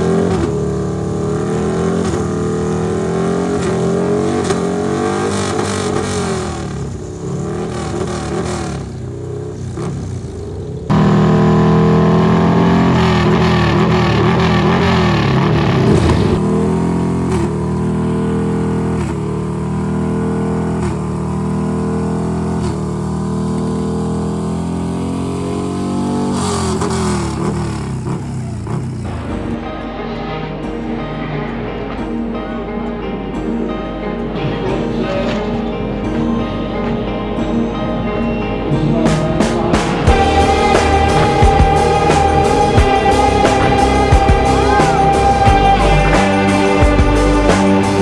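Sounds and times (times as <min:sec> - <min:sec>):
racing motorcycle engines revving: 0:00.0 - 0:48.0.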